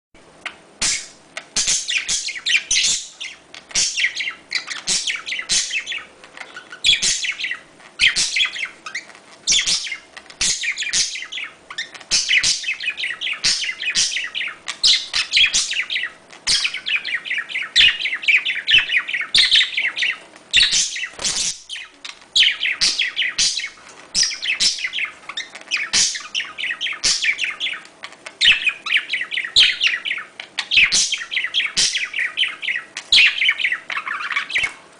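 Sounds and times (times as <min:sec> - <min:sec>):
budgerigars chattering: 0:00.4 - 0:34.8.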